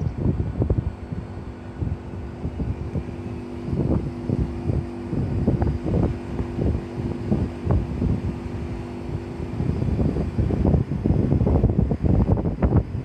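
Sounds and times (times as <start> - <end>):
air conditioner unit humming: 0.0 - 13.0
wind buffeting microphone: 0.0 - 13.0.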